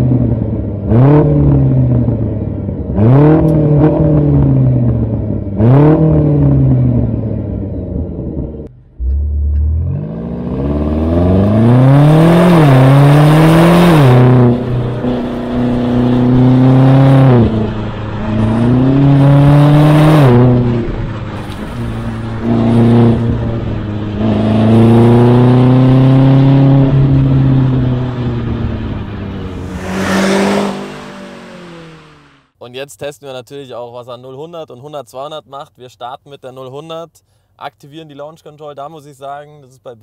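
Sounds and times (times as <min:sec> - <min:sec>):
car engine accelerating: 0:00.0 - 0:32.5.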